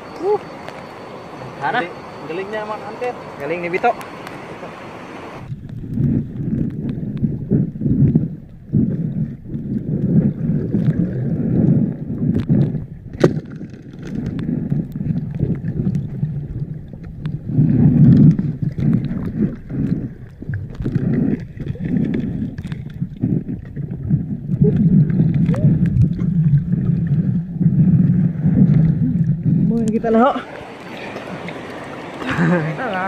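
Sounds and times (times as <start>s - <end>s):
muffled underwater water sloshing: 0.0s - 33.0s.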